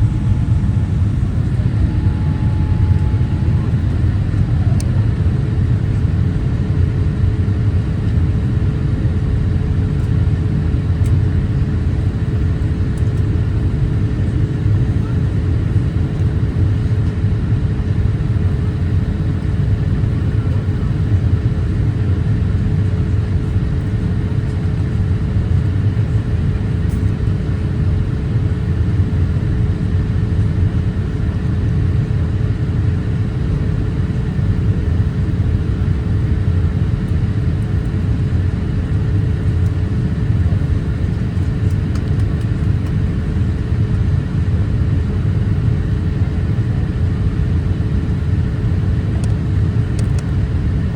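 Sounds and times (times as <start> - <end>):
airliner cabin rumble: 0.0 - 50.9
faint steady hum: 0.0 - 50.9.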